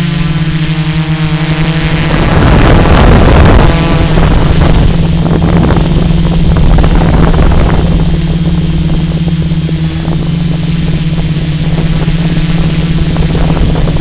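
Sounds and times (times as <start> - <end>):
drone propellers whirring: 0.0 - 14.0
wind buffeting microphone: 0.0 - 14.0.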